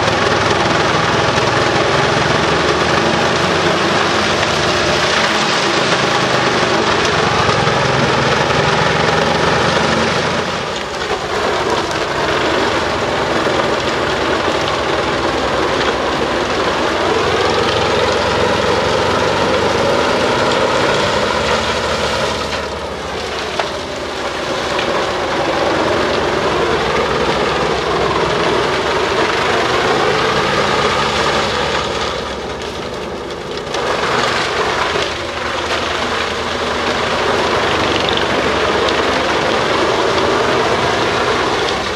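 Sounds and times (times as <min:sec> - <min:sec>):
wood chipper running: 0:00.0 - 0:41.9.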